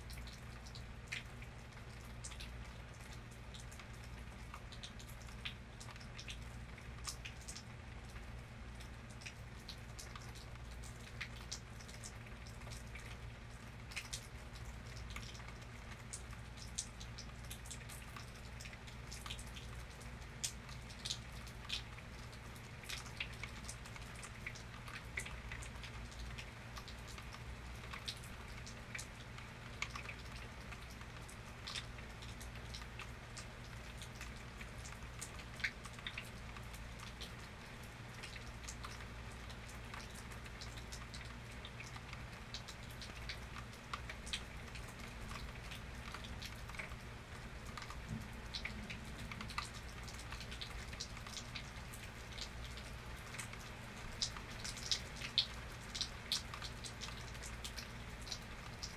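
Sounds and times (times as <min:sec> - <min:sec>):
low steady hum: 0:00.0 - 0:58.9
raindrops ticking: 0:00.0 - 0:58.9.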